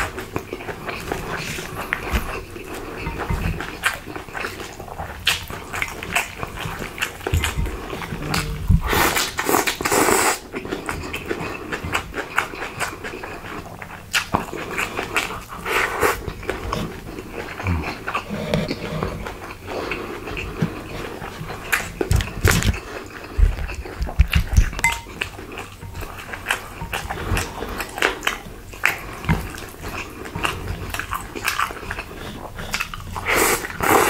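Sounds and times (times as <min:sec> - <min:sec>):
wet chewing and smacking: 0:00.0 - 0:34.0.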